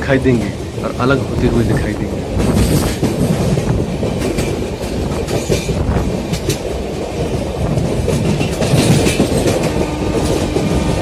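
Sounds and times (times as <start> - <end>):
sharp track clacks: 0.0 - 11.0
train wheel and track rumble: 0.0 - 11.0.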